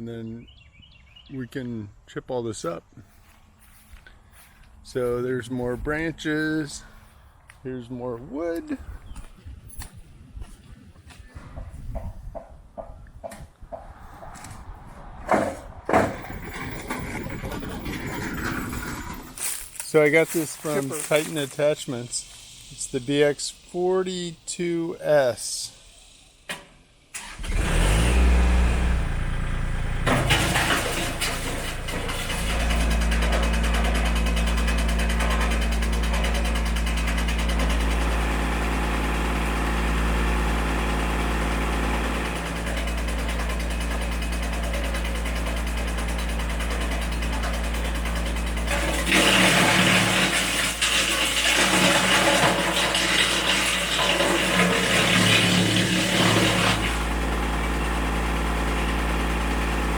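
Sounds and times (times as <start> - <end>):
tractor diesel engine running: 3.1 - 9.3, 15.3 - 25.6, 27.1 - 59.9.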